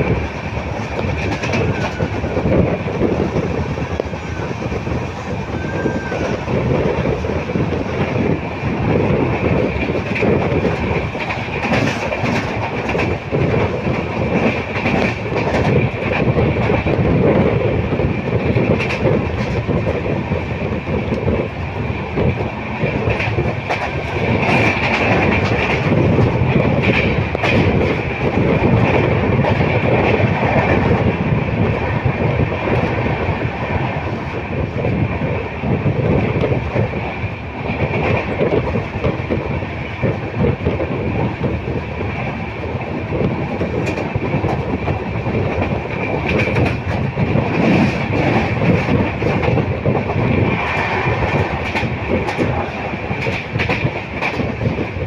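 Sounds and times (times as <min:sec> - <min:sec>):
high tone of wheels on rails: 0:00.0 - 0:55.0
train wheels clattering over rail joints: 0:00.0 - 0:55.0.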